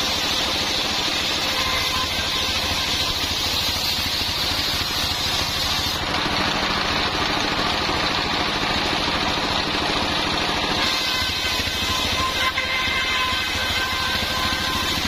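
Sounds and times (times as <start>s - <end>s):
circular saw cutting log: 0.0s - 15.0s
diesel engine running: 0.0s - 15.0s.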